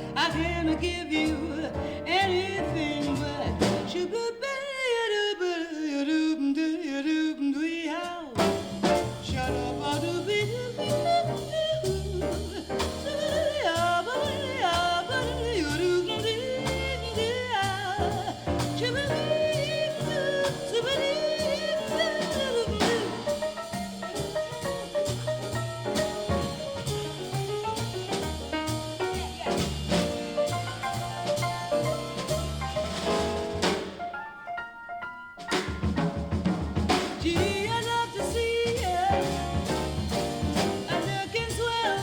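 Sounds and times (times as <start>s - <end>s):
walking bass: 0.0s - 4.1s, 8.4s - 34.0s, 35.7s - 42.0s
drums: 0.0s - 4.4s, 8.0s - 34.4s, 35.3s - 42.0s
swing jazz over loudspeakers: 0.0s - 4.7s, 8.0s - 42.0s.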